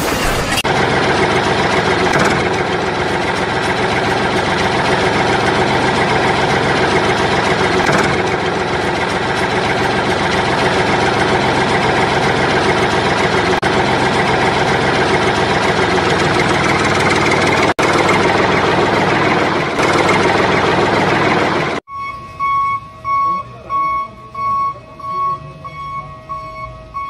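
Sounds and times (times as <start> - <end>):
electronic engine idling sound: 0.0 - 27.0.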